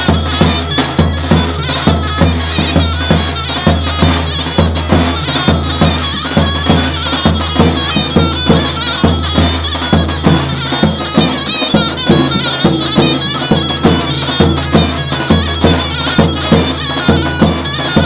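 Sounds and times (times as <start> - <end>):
big drum strokes: 0.0 - 18.0
shrill reedy pipe melody: 0.0 - 18.0.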